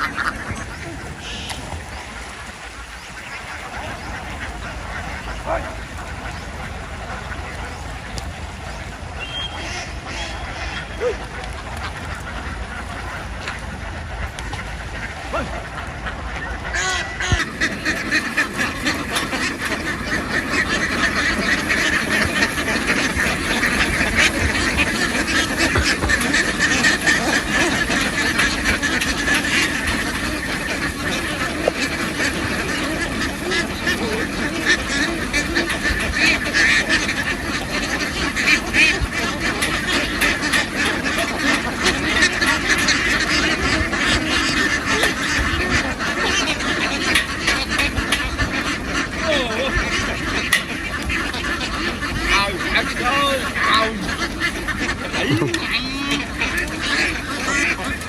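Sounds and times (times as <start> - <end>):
flock of ducks quacking: 0.0 - 58.0.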